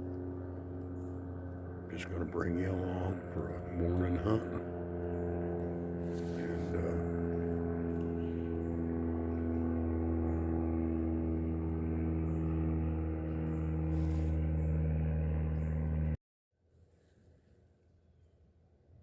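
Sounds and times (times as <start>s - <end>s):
steady motor drone: 0.0s - 16.2s.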